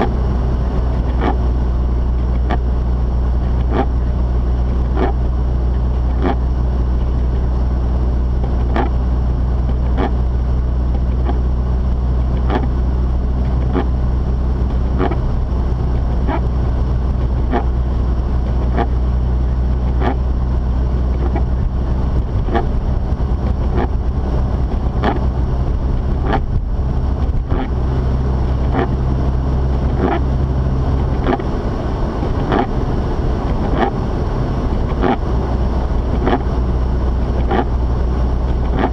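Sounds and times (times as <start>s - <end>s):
car engine drone in cabin: 0.0s - 38.9s
tyre and road noise: 0.0s - 38.9s.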